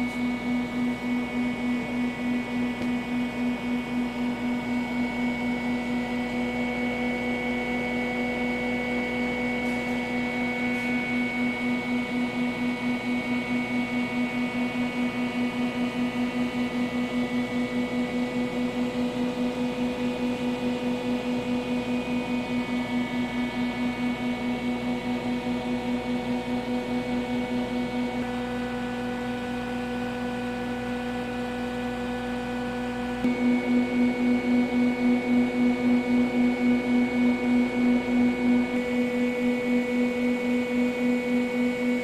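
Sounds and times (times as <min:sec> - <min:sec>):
pulsing machine hum: 0:00.0 - 0:42.0.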